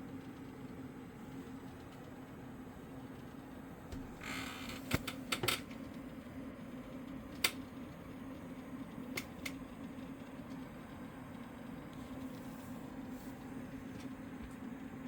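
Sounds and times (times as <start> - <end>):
sharp fan clicks: 0.0 - 13.1
fan humming: 0.0 - 15.0.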